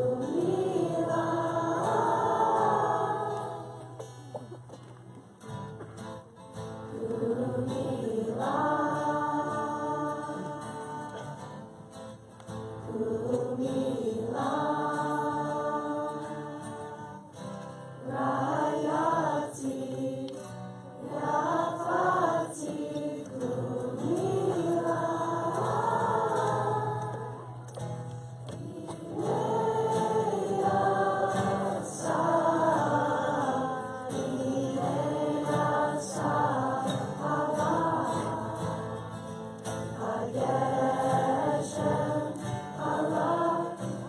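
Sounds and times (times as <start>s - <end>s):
group of voices singing: 0.0s - 4.7s, 6.6s - 44.0s
acoustic guitar strumming: 0.0s - 44.0s.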